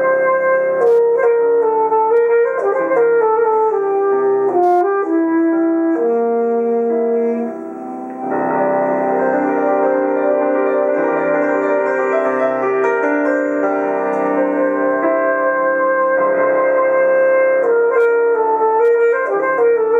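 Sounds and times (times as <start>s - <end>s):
alto saxophone melody: 0.0s - 19.9s
piano chords: 0.0s - 19.9s.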